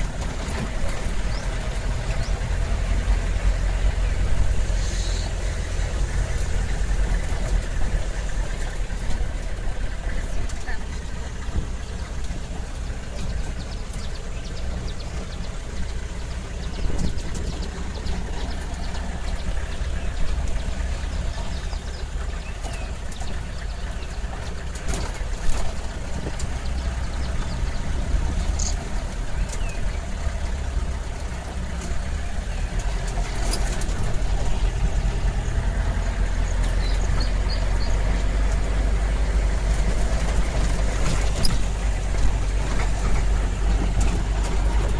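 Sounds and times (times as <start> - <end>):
jeep engine rumbling: 0.0 - 44.9
knocks and rattles: 5.8 - 30.2, 31.3 - 44.9.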